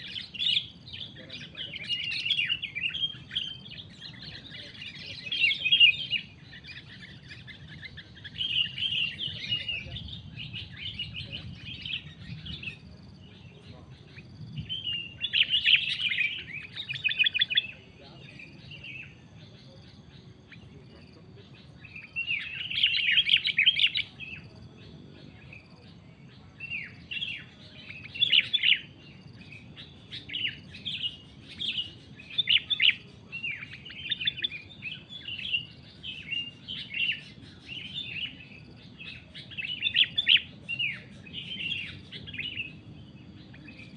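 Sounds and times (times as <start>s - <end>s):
bulbul chattering song: 0.0s - 43.9s.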